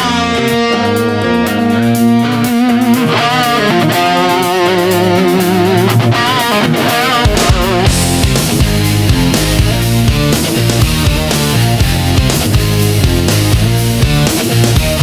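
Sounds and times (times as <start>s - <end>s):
distorted electric guitar melody: 0.0s - 15.0s
heavy low beat: 0.0s - 15.0s.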